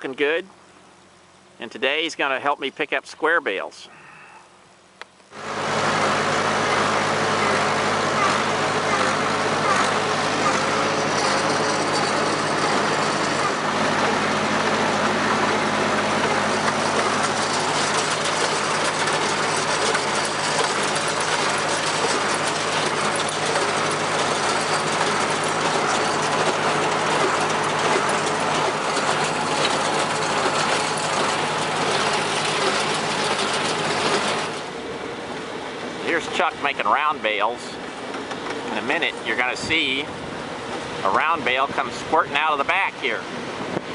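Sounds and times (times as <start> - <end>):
tractor engine running: 5.2 - 43.9
haying machinery clattering: 5.4 - 43.4.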